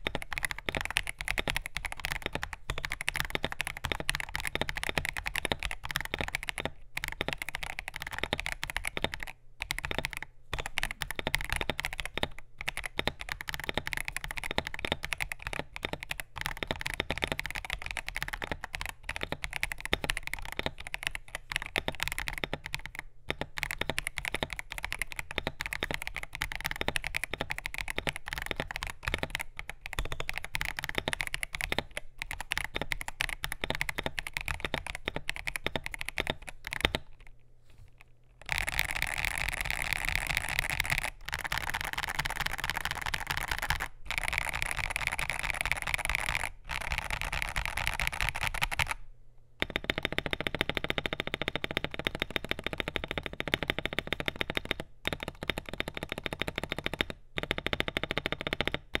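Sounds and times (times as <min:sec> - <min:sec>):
mechanical keyboard typing: 0:00.0 - 0:37.3, 0:38.4 - 0:49.0, 0:49.6 - 0:59.0.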